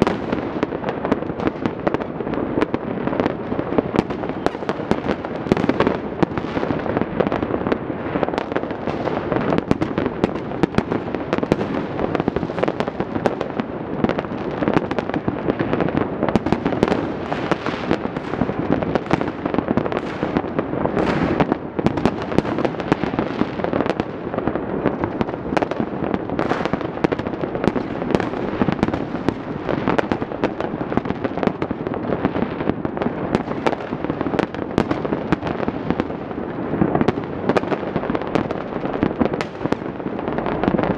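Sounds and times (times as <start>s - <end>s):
fireworks and firecrackers crackling: 0.0s - 40.9s.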